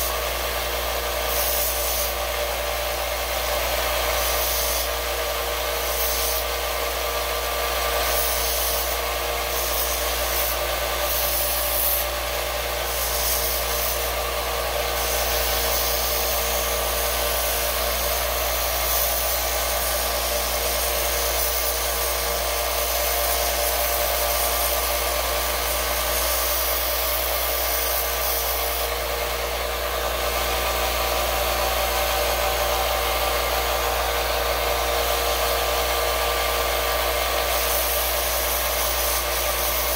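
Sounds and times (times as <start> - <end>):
belt sander motor hum: 0.0 - 39.9
wood rubbing on sanding belt: 1.2 - 2.2, 5.7 - 6.6, 8.0 - 14.2, 14.9 - 39.9.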